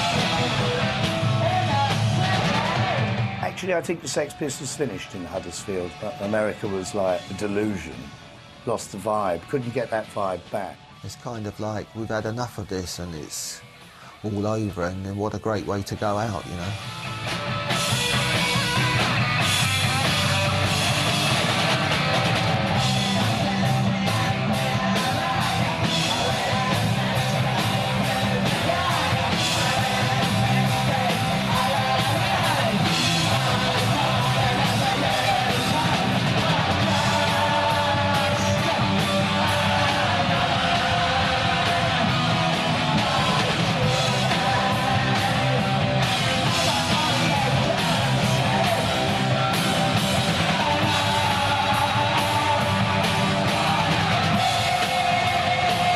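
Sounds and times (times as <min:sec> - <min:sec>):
punk rock music: 0:00.0 - 0:55.9.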